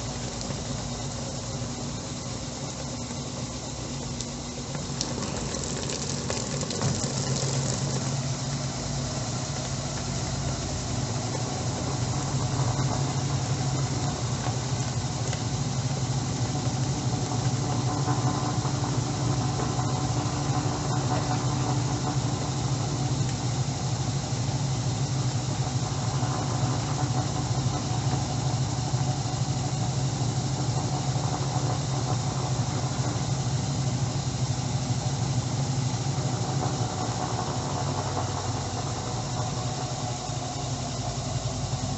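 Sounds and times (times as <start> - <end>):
washing machine humming: 0.0 - 41.9.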